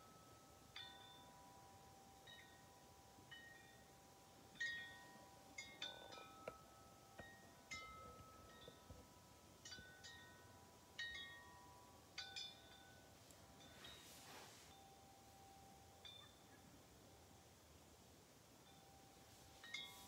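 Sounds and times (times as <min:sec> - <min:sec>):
wind chime ringing: 0:00.0 - 0:16.6, 0:18.6 - 0:20.0
soft hiss: 0:00.0 - 0:20.0.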